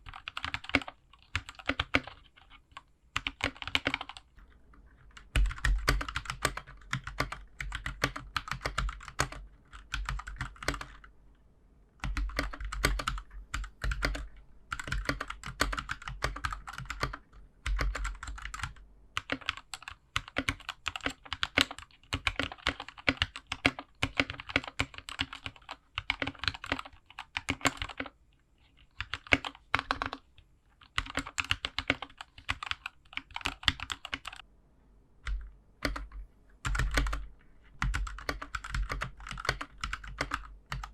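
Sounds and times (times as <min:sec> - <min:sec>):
mechanical keyboard typing clacks: 0:00.0 - 0:04.2, 0:05.2 - 0:11.0, 0:12.0 - 0:28.2, 0:29.0 - 0:30.2, 0:30.8 - 0:34.4, 0:35.3 - 0:37.2, 0:37.8 - 0:40.9.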